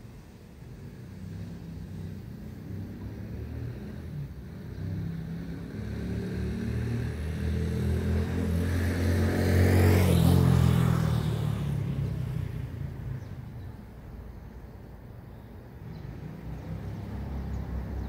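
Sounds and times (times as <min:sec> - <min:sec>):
vehicle driving past: 0:00.8 - 0:13.6, 0:15.8 - 0:18.0.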